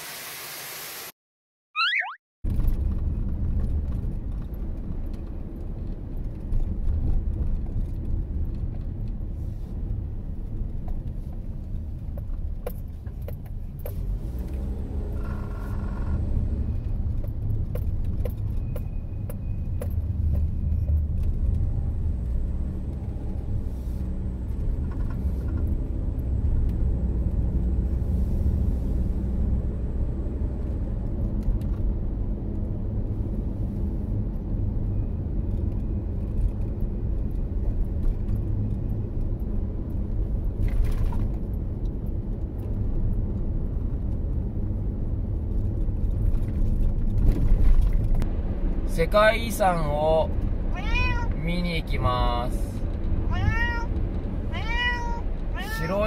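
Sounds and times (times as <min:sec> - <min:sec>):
car engine and road rumble: 0:01.8 - 0:56.0.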